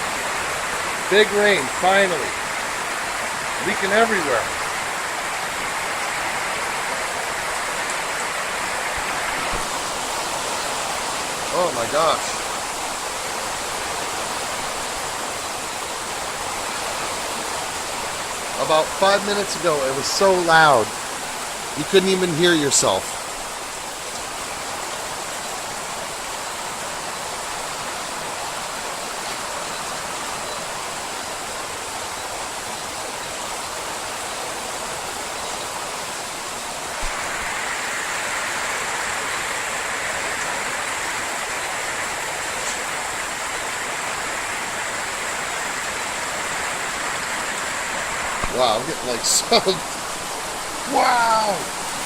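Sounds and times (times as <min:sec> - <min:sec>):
torrential rain pouring: 0:00.0 - 0:52.0.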